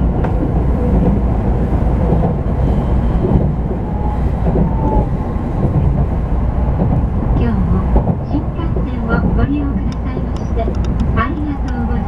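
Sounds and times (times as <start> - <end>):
train interior running rumble: 0.0 - 12.0.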